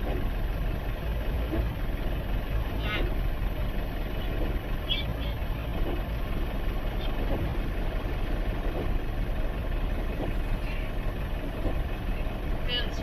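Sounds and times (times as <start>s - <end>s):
car engine running: 0.0s - 13.0s
water wash noise: 0.0s - 13.0s.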